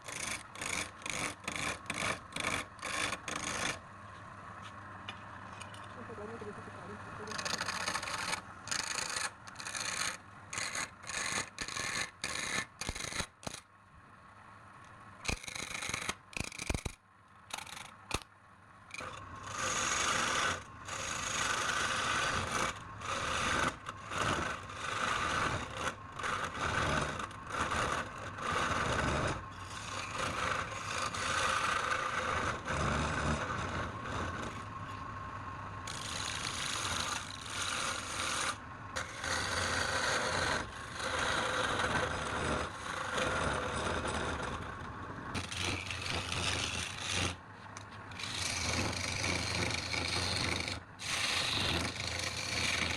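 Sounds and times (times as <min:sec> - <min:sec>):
abrasive tool rubbing wood: 0:00.0 - 0:03.8, 0:07.2 - 0:13.6, 0:19.0 - 0:34.7, 0:35.9 - 0:52.9.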